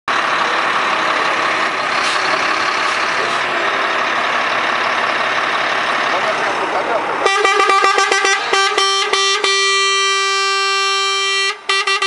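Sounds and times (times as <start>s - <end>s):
heavy truck engine running: 0.1s - 12.0s.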